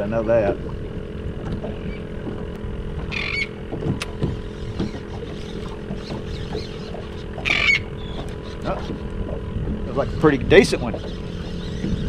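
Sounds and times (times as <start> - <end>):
outboard motor humming: 0.0 - 12.0
water sloshing at hull: 0.0 - 12.0.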